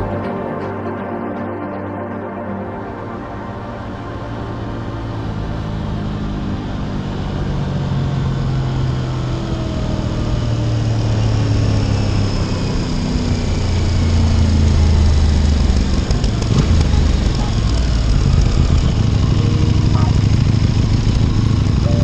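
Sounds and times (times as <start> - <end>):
wind and road noise: 3.4 - 22.0
motorcycle engine cruising: 4.2 - 22.0.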